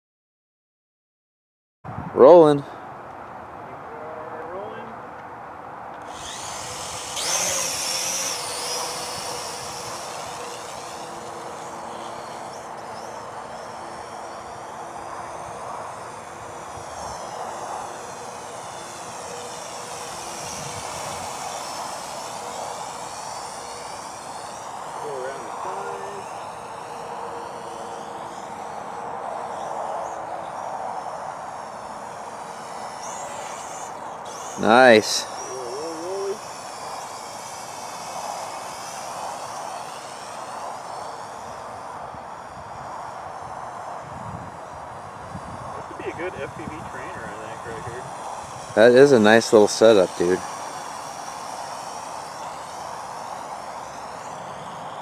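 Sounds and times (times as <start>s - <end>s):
quadcopter propellers buzzing: 2.2s - 55.0s.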